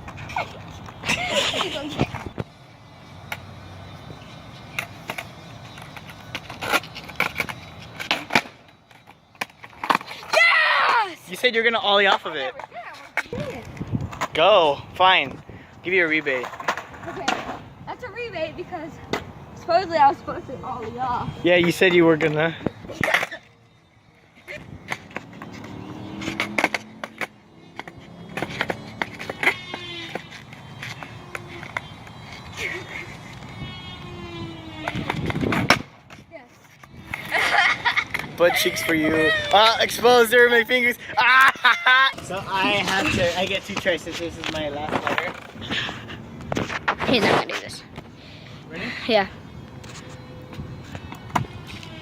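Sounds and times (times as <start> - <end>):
skateboard wheels rumbling: 0.0 - 52.0.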